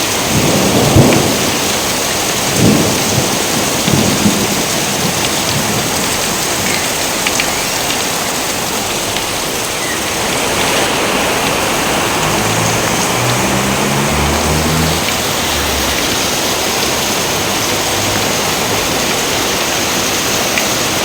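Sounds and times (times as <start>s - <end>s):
dense rain: 0.0s - 21.0s
thunder rumbling: 0.2s - 8.0s, 10.0s - 19.4s.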